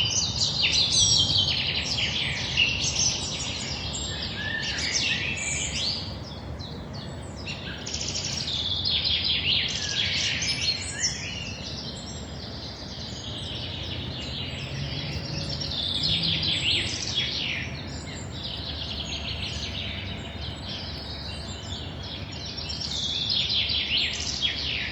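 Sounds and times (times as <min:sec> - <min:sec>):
low city hum: 0:00.0 - 0:24.9
songbirds singing: 0:00.0 - 0:24.9.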